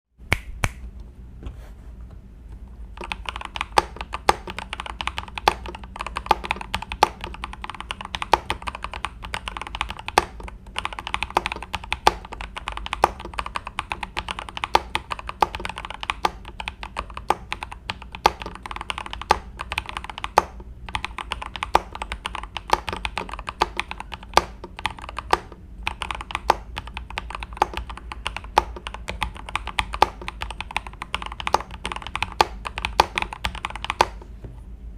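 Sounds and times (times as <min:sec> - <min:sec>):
mechanical keyboard typing: 0:03.0 - 0:34.2.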